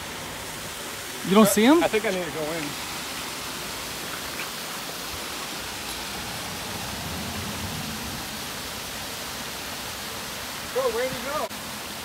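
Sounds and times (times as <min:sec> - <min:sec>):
small waterfall rushing over rocks: 0:00.0 - 0:12.0.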